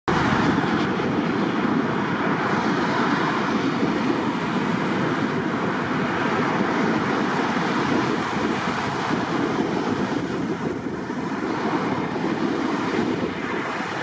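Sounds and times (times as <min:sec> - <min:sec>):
jet engine rushing: 0:00.1 - 0:14.0.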